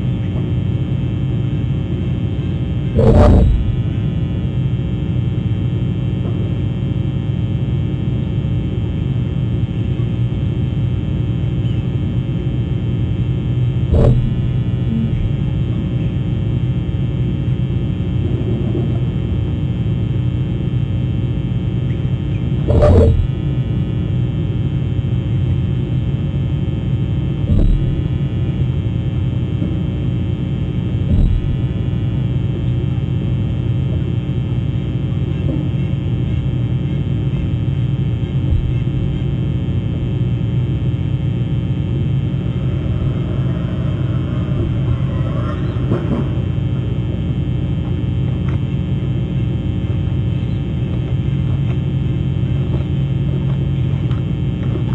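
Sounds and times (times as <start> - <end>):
electrical hum and buzz: 0.0 - 54.9.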